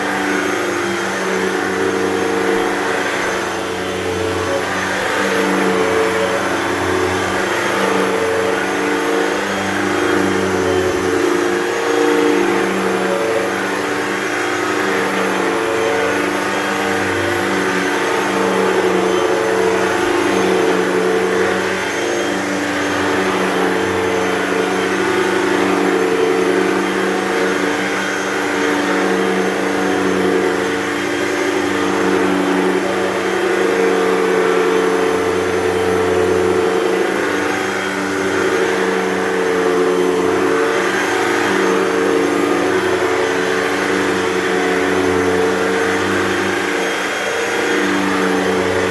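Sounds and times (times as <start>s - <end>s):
vacuum cleaner running: 0.0s - 48.9s.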